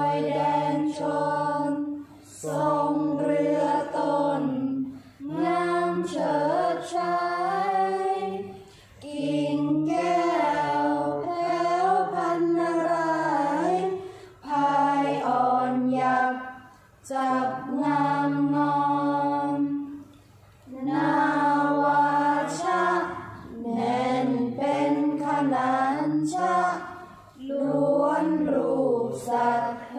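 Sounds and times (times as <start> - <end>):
young voices chanting in unison: 0.0 - 19.9, 20.7 - 29.9.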